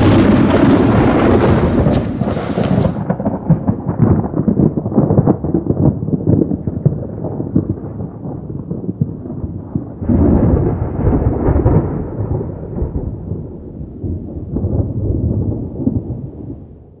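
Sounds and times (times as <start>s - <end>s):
deep crackling rumble: 0.0s - 17.0s.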